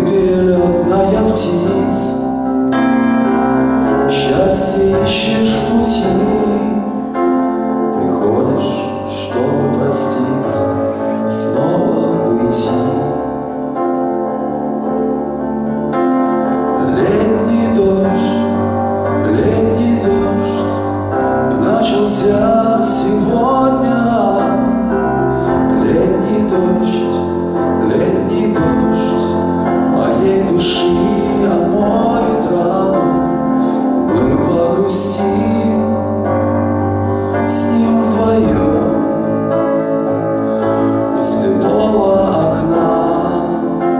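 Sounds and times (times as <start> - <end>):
man singing a slow ballad: 0.0 - 3.1, 3.8 - 14.0, 16.4 - 43.9
electronic keyboard piano sound: 0.0 - 43.9.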